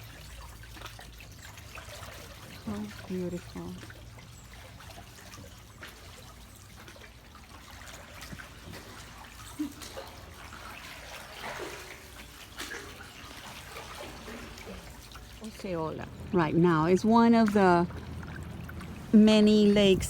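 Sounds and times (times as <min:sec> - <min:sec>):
water dripping off paddle: 0:00.0 - 0:19.9
paddle splashing water: 0:00.0 - 0:20.0.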